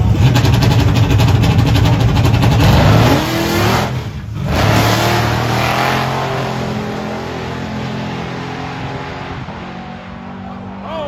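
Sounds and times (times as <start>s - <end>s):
race engine accelerating: 0.0s - 10.8s.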